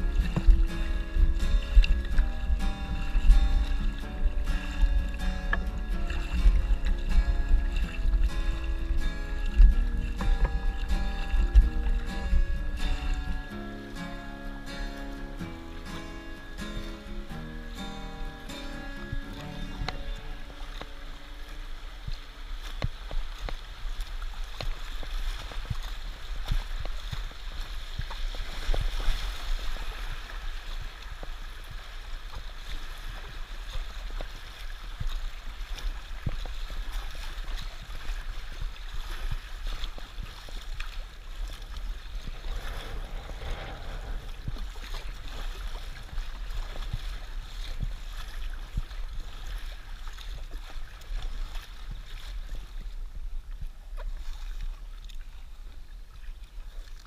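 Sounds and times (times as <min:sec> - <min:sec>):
river water rushing: 0:00.0 - 0:52.8
paddle splashes: 0:00.0 - 0:57.0.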